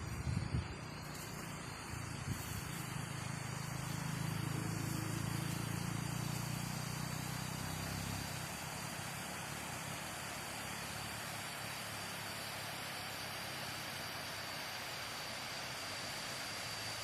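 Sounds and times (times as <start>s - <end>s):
thin high steady tone: 0.0s - 17.0s.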